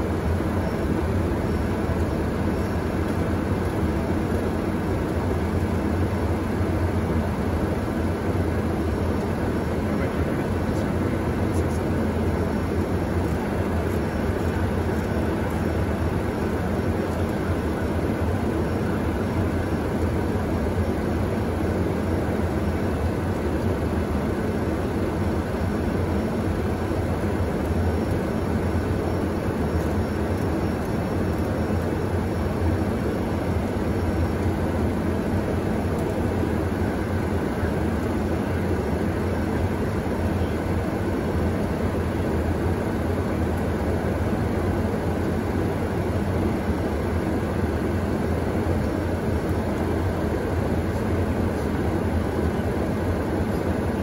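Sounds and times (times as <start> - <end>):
airplane engines and airflow: 0.0 - 54.0
faint steady whine: 0.0 - 54.0.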